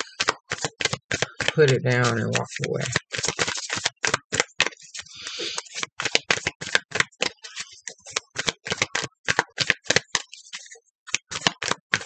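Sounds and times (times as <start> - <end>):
cards shuffling clicks: 0.0 - 12.0.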